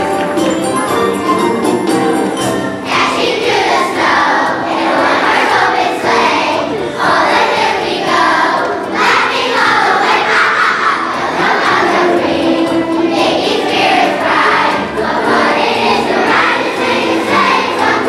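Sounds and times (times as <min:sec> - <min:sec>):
children's choir singing: 0:00.0 - 0:18.0
music with jingle bells: 0:00.0 - 0:18.0.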